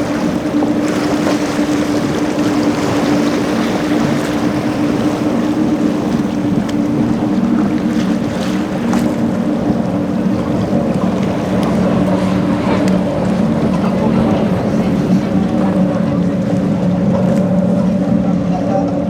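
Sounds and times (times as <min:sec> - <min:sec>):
motorboat engines humming: 0:00.0 - 0:19.0
rushing water: 0:00.0 - 0:19.0
wind: 0:00.0 - 0:19.0.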